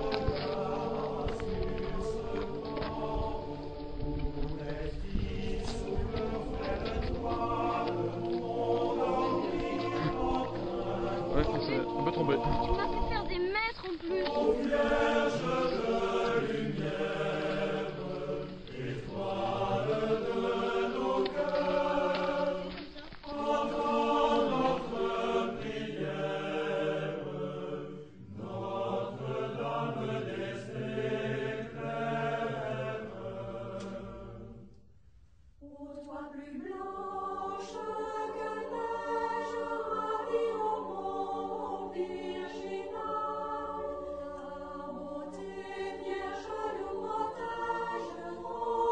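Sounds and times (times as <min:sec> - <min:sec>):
choir singing chant-like song: 0:00.0 - 0:34.8, 0:35.6 - 0:48.9.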